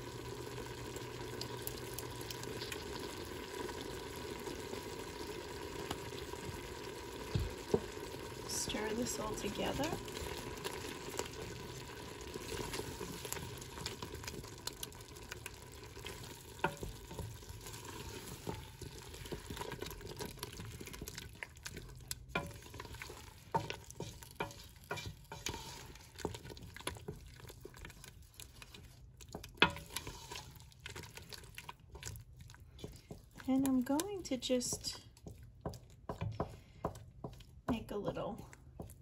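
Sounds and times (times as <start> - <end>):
soft sizzle: 0.0 - 39.0
wooden spoon scraping a pot: 5.9 - 39.0.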